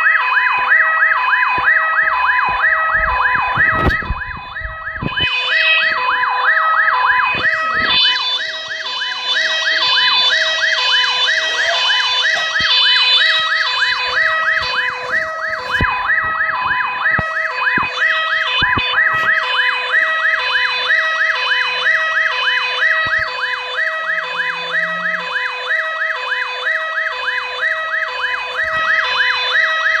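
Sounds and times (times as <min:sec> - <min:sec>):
electronic siren yelp: 0:00.0 - 0:30.0.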